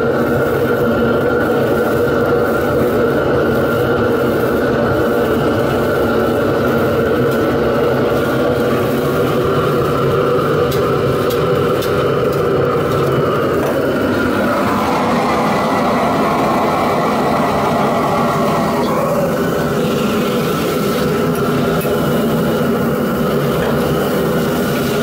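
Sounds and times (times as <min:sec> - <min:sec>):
gas burner roaring: 0:00.0 - 0:25.0.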